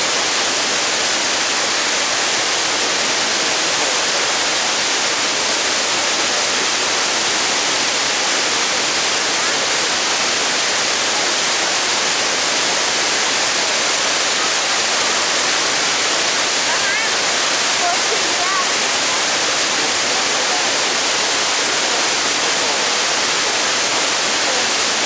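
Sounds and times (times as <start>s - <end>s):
water rushing down spillway: 0.0s - 25.0s.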